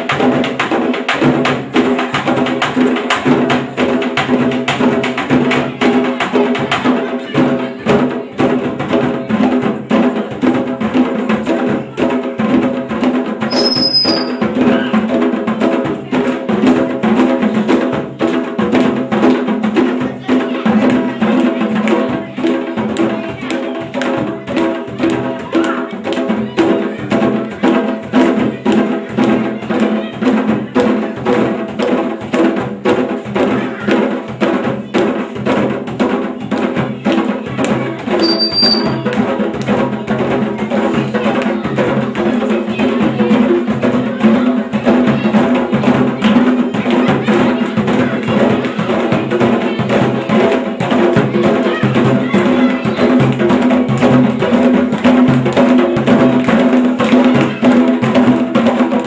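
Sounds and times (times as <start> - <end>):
drum ensemble beating rhythm: 0.0 - 59.0.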